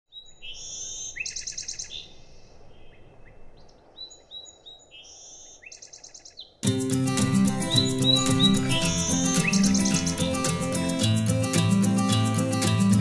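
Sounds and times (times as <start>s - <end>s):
songbirds singing with buzzy trill: 0.1s - 13.0s.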